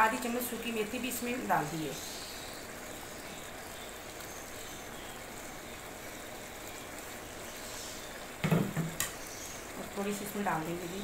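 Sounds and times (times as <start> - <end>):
curry simmering with sizzling hiss: 0.0 - 11.0.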